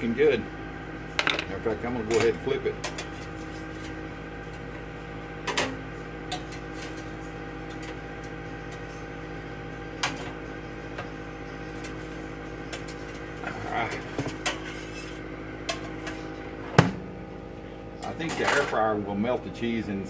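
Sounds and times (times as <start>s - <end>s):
air fryer oven humming: 0.0s - 20.0s.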